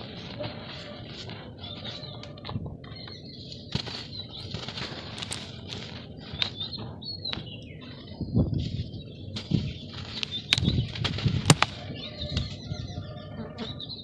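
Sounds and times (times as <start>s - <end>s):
dry dirt crunching: 0.0s - 13.3s.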